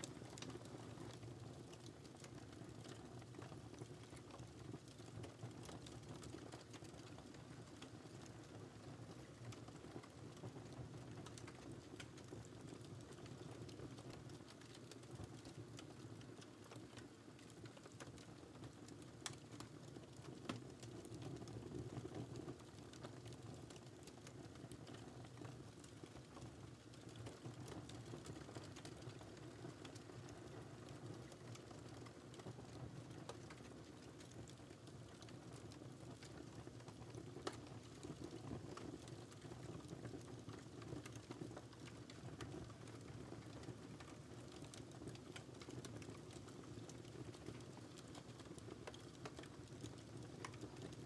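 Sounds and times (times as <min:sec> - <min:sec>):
low rumble of fire: 0:00.0 - 0:51.0
wood fire crackling: 0:00.0 - 0:51.0.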